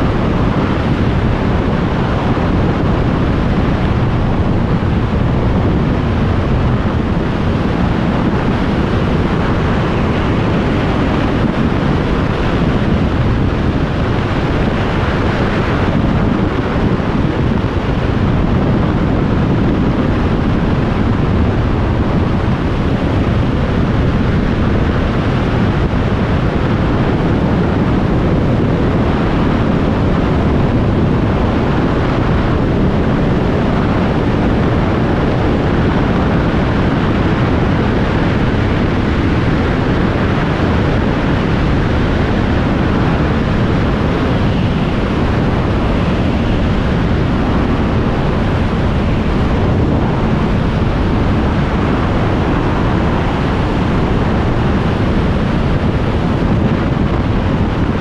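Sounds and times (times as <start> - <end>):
road noise: 0.0 - 58.0
wind rush on microphone: 0.0 - 58.0.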